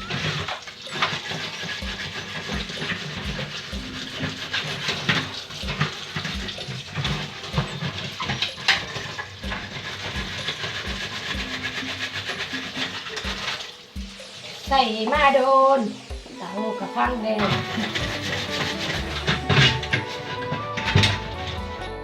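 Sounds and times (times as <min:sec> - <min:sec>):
scrubbing stove by hand: 0:00.0 - 0:22.0.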